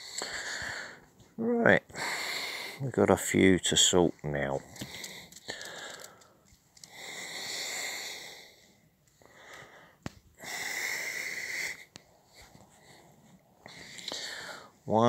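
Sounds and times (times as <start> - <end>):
person breathing: 0.0 - 1.2, 1.8 - 2.9, 4.6 - 14.9.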